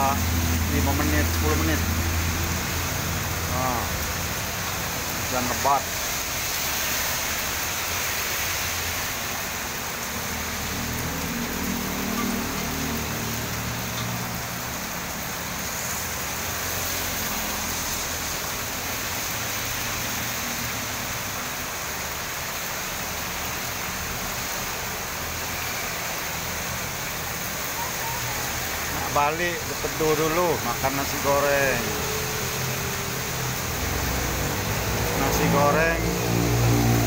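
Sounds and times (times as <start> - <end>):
passing vehicle engine hum: 0.0 - 29.1, 29.7 - 37.0
heavy rain on street: 0.0 - 37.0.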